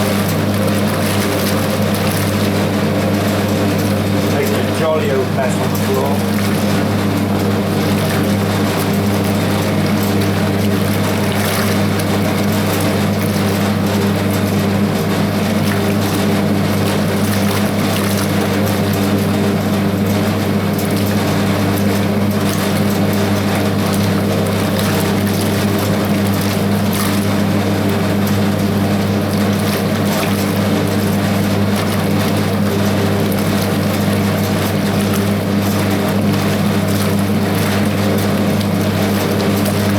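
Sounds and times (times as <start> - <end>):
water churning in tub: 0.0 - 39.9.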